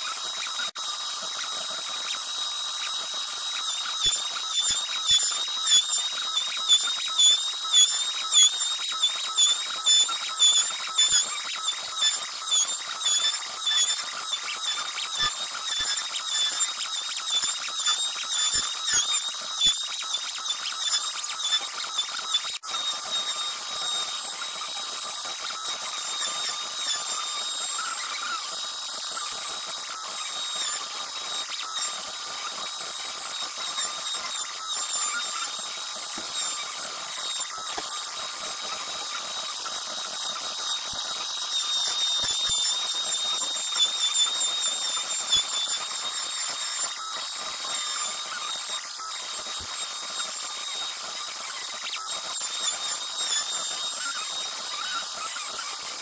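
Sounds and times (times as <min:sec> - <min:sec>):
router spindle whining: 0:00.0 - 0:48.7.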